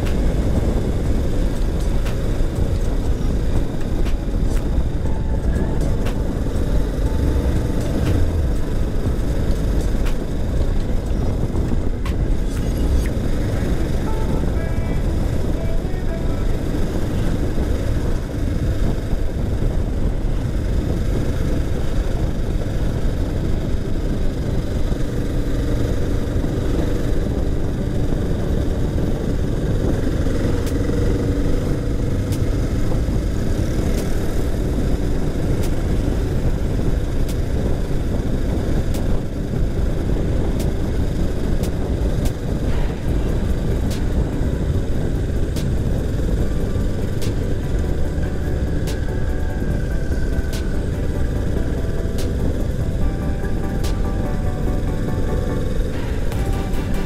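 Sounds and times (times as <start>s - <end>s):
motorcycle engine rumble: 0.0s - 57.0s.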